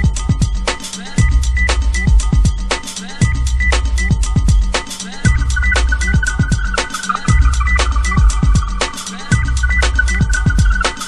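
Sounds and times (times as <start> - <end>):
kick drums: 0.0 - 11.0
sustained low bass: 0.0 - 11.0.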